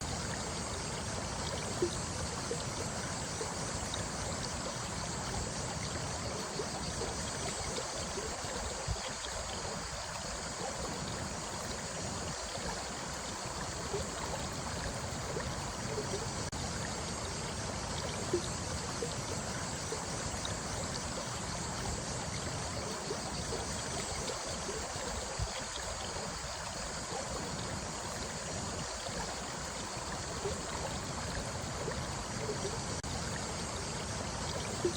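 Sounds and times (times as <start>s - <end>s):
stream babbling: 0.0s - 34.9s.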